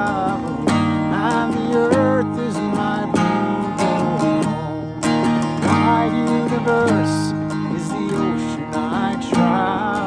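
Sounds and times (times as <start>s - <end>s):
man singing: 0.0s - 10.0s
strummed acoustic guitar: 0.0s - 10.0s.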